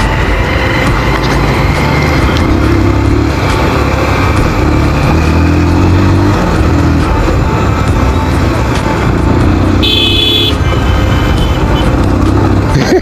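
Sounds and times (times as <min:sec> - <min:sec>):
motorcycle engine running: 0:00.0 - 0:12.9
road noise: 0:00.0 - 0:13.0.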